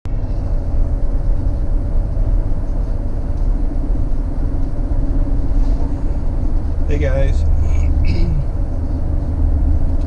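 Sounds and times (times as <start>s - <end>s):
vehicle engine rumble: 0.1s - 10.0s.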